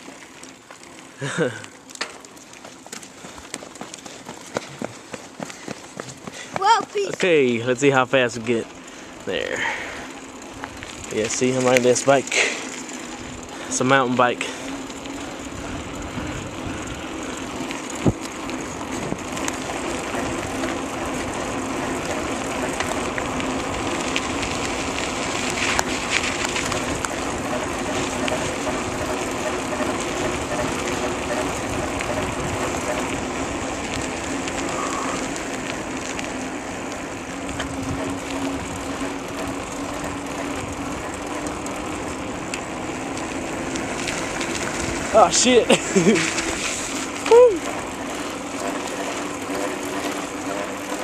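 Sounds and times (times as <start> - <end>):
bike tyres rolling: 0.0 - 51.0.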